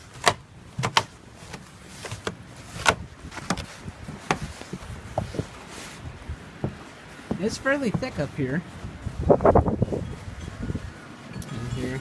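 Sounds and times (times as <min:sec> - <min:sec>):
footsteps on crusted snow: 0:00.0 - 0:12.0.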